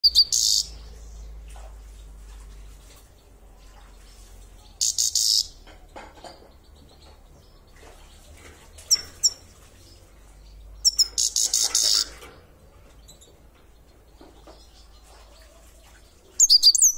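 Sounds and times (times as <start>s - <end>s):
bird chirping: 0.0s - 16.9s.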